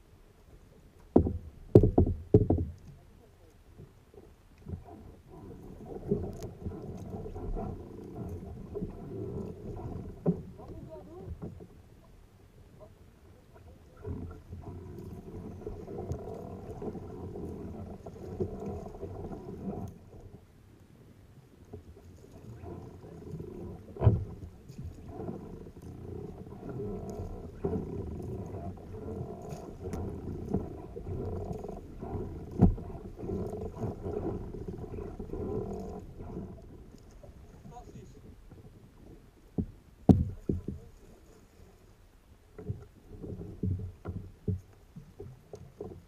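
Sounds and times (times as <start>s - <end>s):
water rumbling around a kayak: 0.0s - 46.0s.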